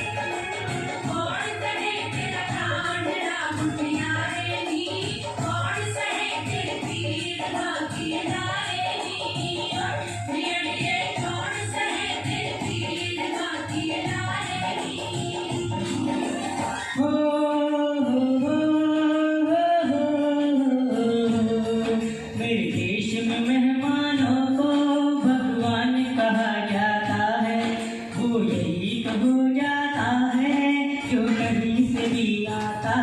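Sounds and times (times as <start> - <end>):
person singing wordless melody: 0.0 - 33.0.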